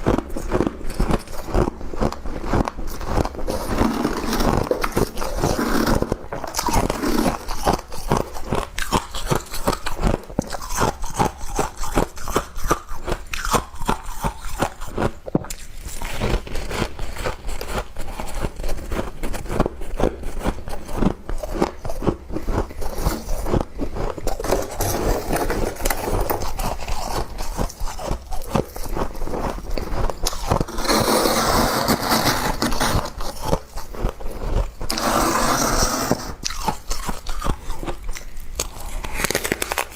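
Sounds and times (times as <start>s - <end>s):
frost being crunched and chewed: 0.0s - 30.9s, 32.5s - 35.0s, 36.4s - 39.9s.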